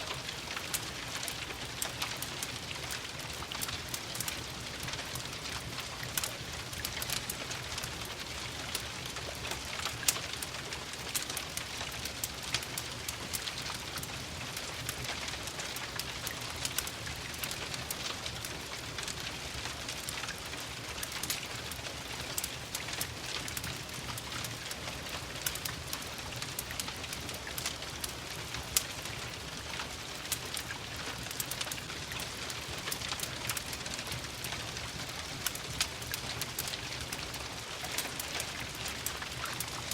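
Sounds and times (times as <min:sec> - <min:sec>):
steady rain falling: 0:00.0 - 0:39.9
wood fire crackling and popping: 0:00.0 - 0:39.9.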